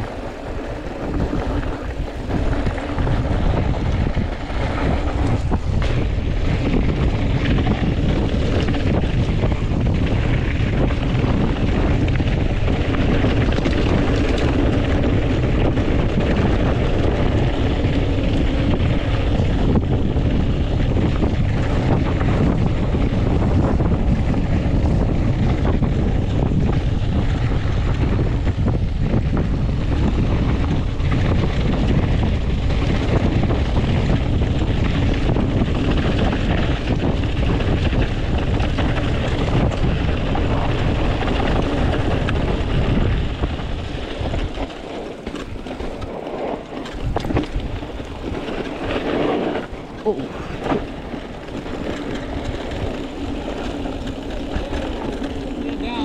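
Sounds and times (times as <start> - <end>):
bike rattling: 0.0 - 56.0
knobby tyres rumbling on dirt: 0.0 - 56.0
wind buffeting microphone: 0.0 - 56.0.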